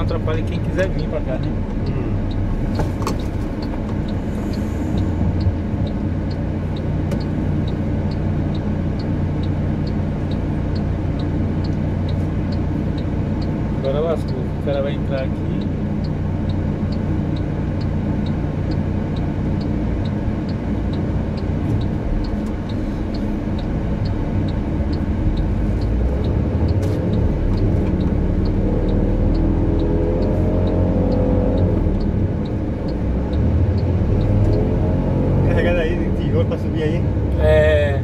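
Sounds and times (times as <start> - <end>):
car engine running: 0.0 - 38.0
regular light ticking: 0.0 - 38.0.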